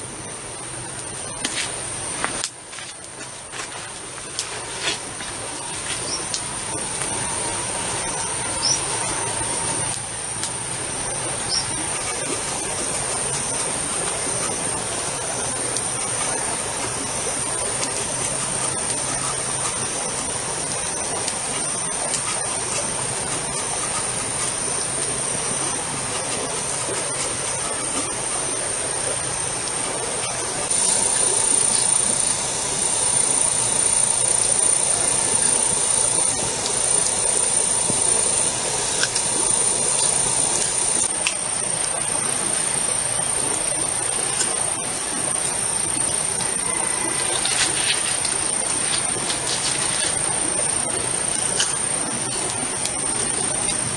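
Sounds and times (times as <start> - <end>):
even hiss: 0.0 - 53.9
loud buzzing insect chorus: 1.1 - 53.9
high-pitched insect drone: 4.5 - 53.9.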